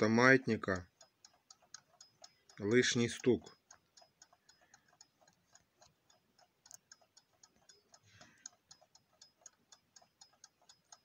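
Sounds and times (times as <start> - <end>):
clock ticking faintly: 0.0 - 11.0.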